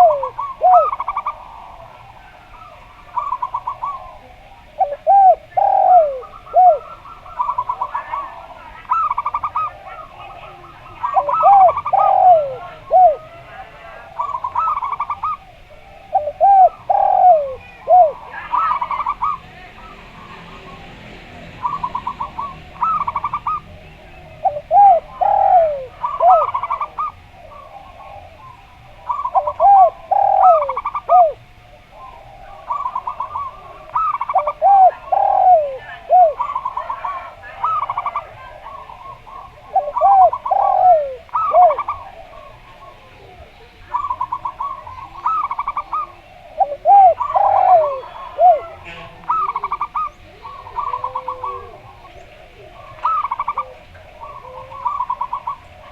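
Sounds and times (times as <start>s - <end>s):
dove giving stuttering high coos: 0.0s - 20.8s, 21.6s - 23.7s, 24.4s - 55.9s
dove giving low swooping coos: 0.0s - 55.9s.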